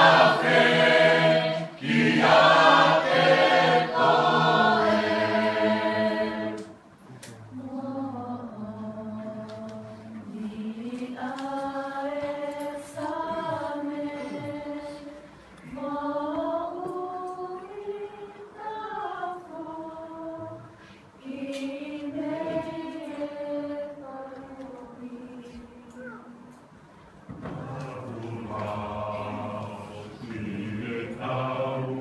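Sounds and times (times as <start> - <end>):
group singing a hymn: 0.0 - 6.9, 7.5 - 25.9, 27.3 - 32.0.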